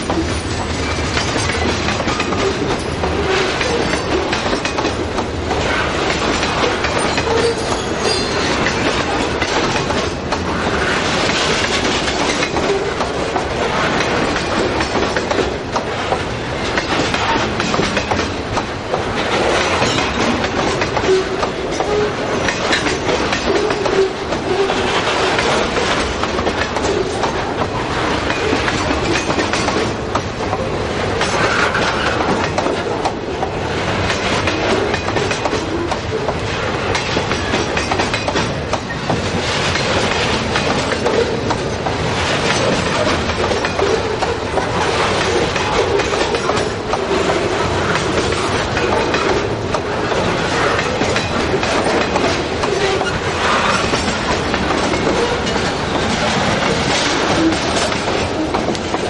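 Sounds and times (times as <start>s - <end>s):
train wheels rumbling and clattering: 0.0s - 59.0s.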